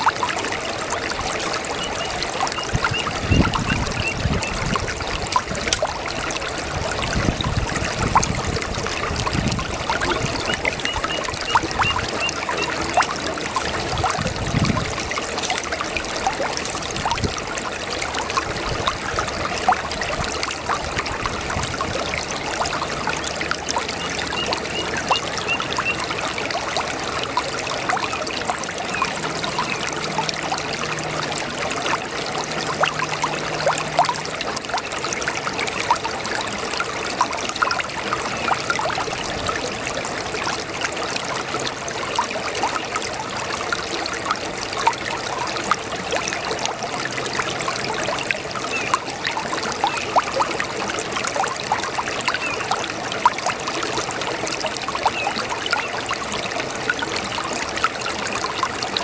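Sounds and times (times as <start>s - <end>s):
brook water trickling and gurgling: 0.0s - 59.0s.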